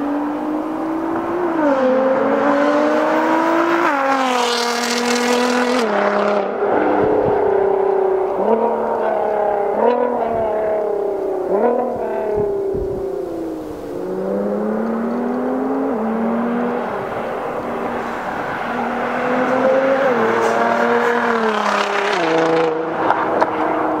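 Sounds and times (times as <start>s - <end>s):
sports car accelerating past: 0.0s - 24.0s.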